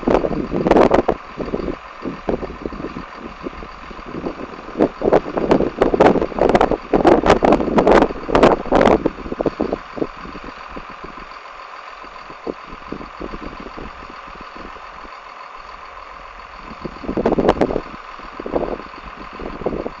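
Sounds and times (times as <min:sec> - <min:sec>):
wind buffeting microphone: 0:00.0 - 0:11.3, 0:12.2 - 0:15.1, 0:16.4 - 0:20.0
diesel engine running: 0:00.0 - 0:20.0.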